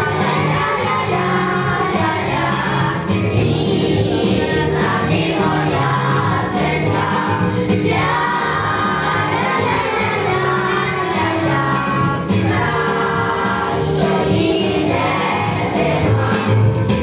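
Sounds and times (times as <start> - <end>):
children singing together: 0.0 - 17.0
instrumental accompaniment: 0.0 - 17.0.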